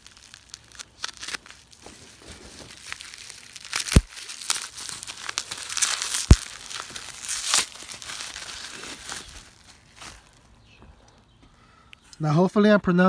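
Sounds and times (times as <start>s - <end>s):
bubble wrap snaps: 0.0s - 10.5s
bubble wrap crinkling: 0.0s - 11.3s.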